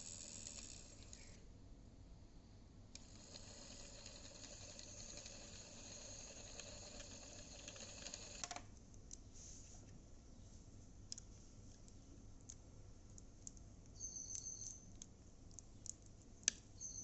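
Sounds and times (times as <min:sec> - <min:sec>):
small fan whirring: 0:00.0 - 0:17.0.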